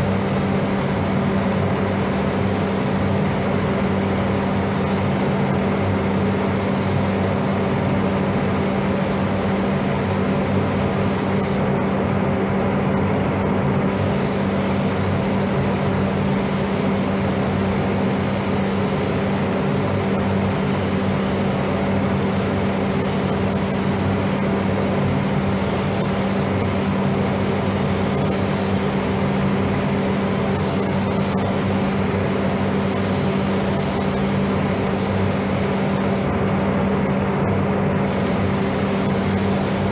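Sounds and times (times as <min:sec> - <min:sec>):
spray gun hissing: 0:00.0 - 0:11.7, 0:13.9 - 0:36.3, 0:38.1 - 0:39.9
ventilation fans droning: 0:00.0 - 0:39.9.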